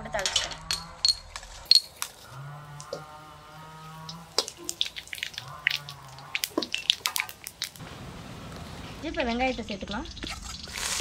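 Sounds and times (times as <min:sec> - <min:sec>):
seeds crackling in hot oil: 0:00.2 - 0:11.0.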